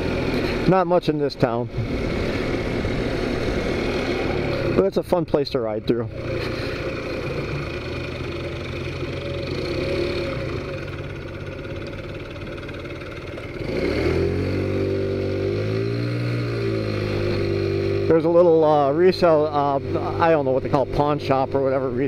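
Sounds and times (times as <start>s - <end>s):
scooter engine revving: 0.0s - 0.8s, 1.7s - 5.0s, 6.0s - 21.9s.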